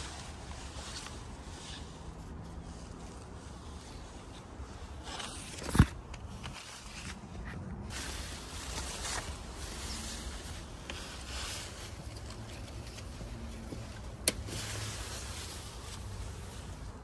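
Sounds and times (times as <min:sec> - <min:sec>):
leaves and branches rustling: 0:00.0 - 0:17.0.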